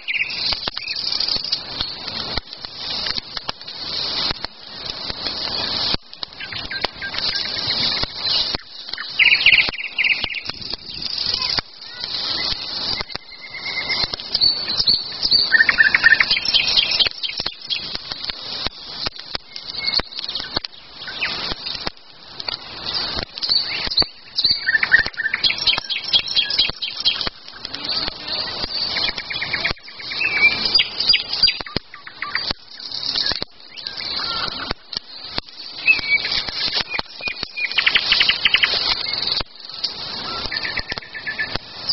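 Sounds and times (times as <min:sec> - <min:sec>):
birds singing: 0:00.0 - 0:02.0, 0:04.6 - 0:21.9, 0:22.7 - 0:41.9
sharp crackles and clicks: 0:00.0 - 0:41.9.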